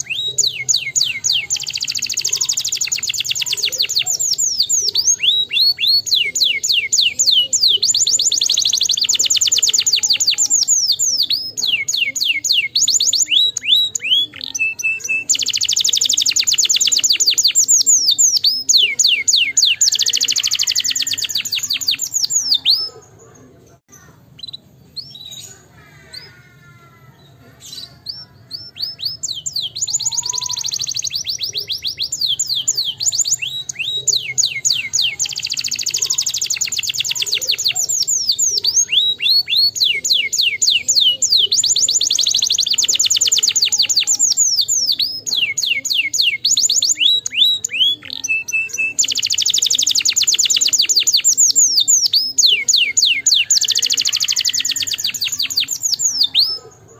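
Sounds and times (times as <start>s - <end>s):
canary singing trills and whistles: 0.0s - 56.9s.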